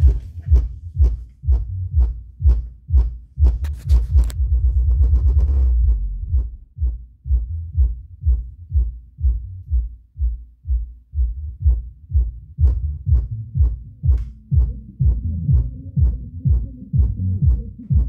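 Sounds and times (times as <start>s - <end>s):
deep kick drum thumps: 0.0s - 18.0s
pitched bass line: 0.0s - 18.0s.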